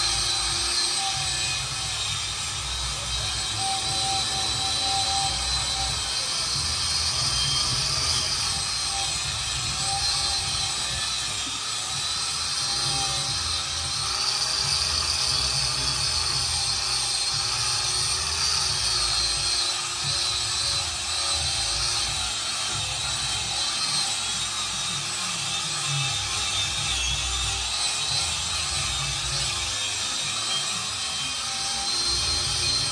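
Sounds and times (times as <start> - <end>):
handheld power tool running: 0.0 - 32.9.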